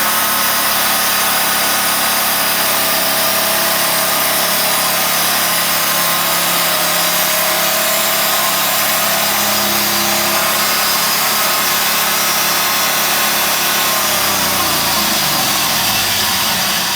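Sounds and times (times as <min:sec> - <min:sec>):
saw blade hissing through wood: 0:00.0 - 0:16.9
sawmill engine running: 0:00.0 - 0:16.9.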